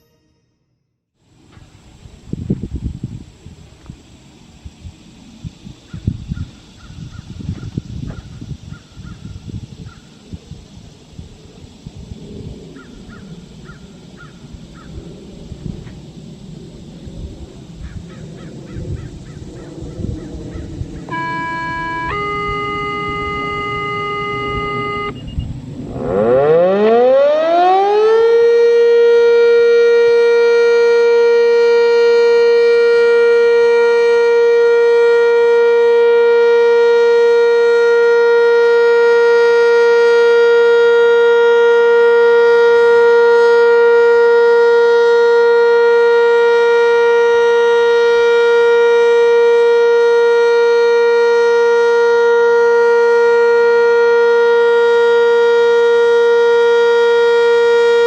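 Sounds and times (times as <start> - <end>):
steady warning siren tone: 1.8 - 58.0.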